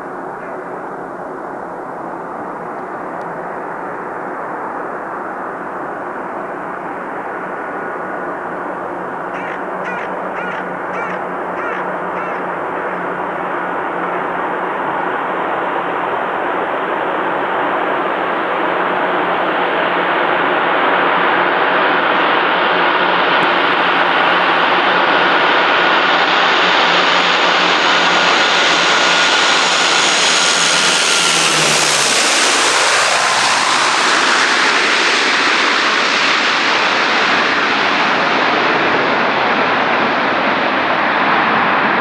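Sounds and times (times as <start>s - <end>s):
turboprop airliner passing: 0.0s - 42.0s
whining propeller tones: 6.8s - 42.0s.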